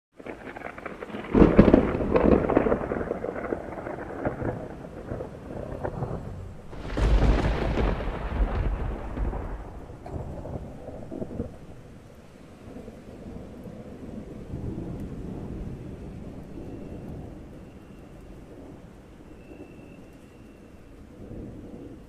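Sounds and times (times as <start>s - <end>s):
thunder rumbling: 0.1s - 22.0s.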